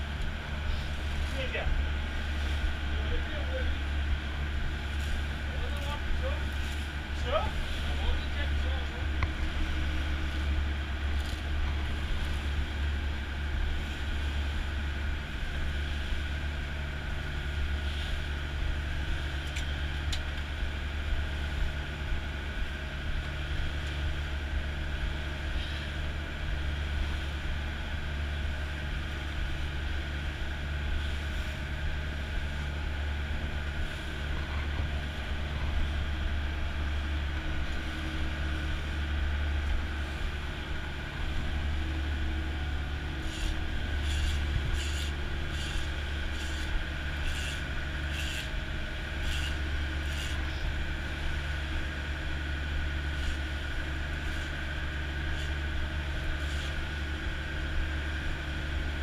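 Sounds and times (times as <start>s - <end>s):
boat engine humming: 0.0s - 59.0s
hiss of water and wind: 0.0s - 59.0s.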